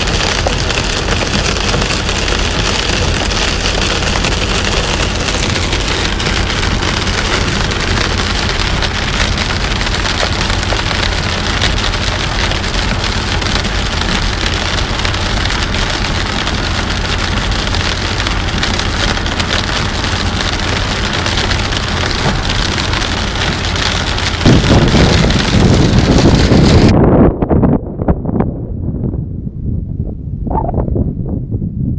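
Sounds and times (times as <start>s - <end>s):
rain pelting car windshield: 0.0s - 26.9s
car driving on wet road: 0.0s - 27.0s.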